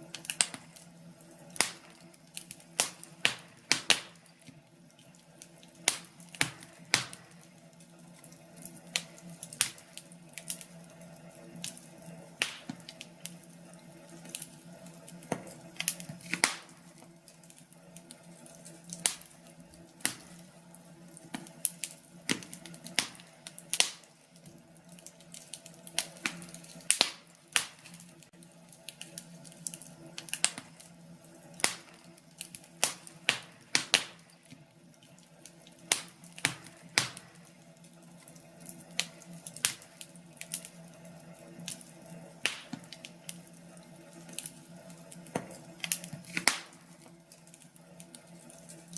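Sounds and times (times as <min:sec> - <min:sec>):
faint steady hum: 0:00.0 - 0:48.9
wood fire crackling and popping: 0:00.0 - 0:48.9.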